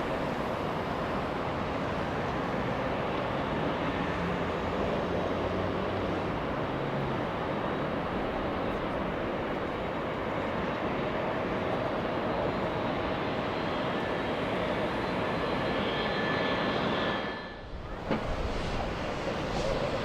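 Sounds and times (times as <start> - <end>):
jet engines rushing with whine: 0.0 - 20.0.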